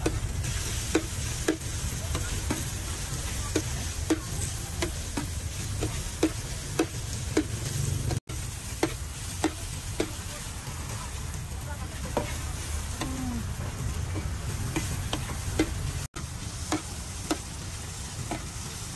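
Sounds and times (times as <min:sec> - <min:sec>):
frying sizzle: 0:00.0 - 0:18.9.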